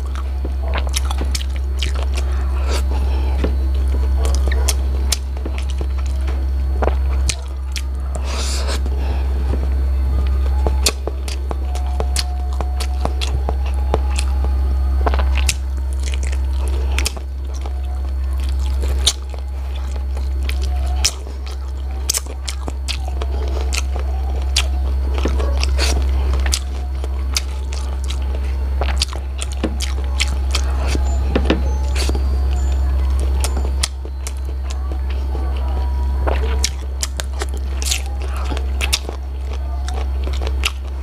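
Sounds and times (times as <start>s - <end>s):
low hum: 0.0s - 41.0s
person chewing: 0.0s - 41.0s.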